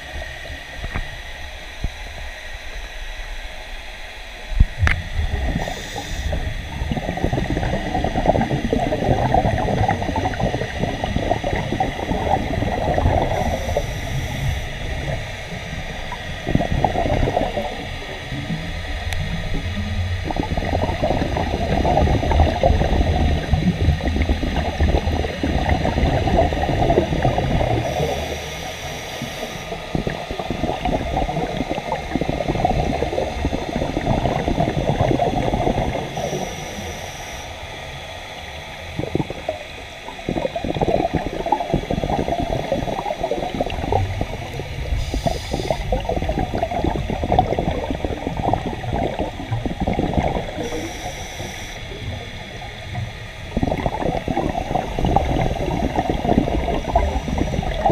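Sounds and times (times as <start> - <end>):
exhaled bubbles gurgling underwater: 0.0 - 57.9
regulator hiss: 0.0 - 57.9.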